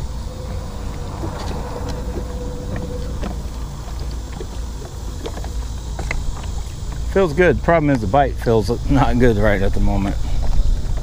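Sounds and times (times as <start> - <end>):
boat noise: 0.0 - 11.0
wind rumble: 0.0 - 11.0.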